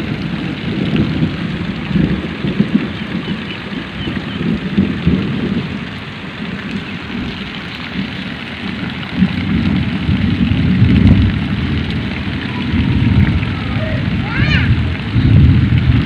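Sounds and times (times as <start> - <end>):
heavy rain on muddy water: 0.0 - 16.0
low uneven rumble: 0.0 - 16.0.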